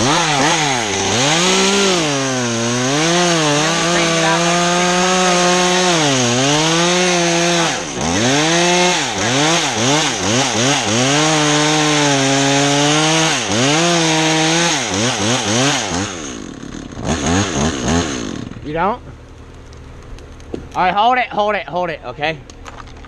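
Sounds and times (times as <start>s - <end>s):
chainsaw cutting wood: 0.0s - 18.7s.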